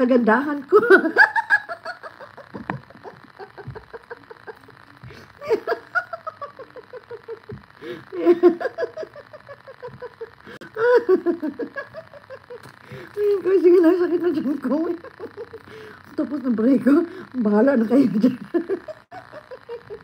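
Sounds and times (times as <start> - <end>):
woman laughing: 0.7 - 17.1, 17.9 - 20.0.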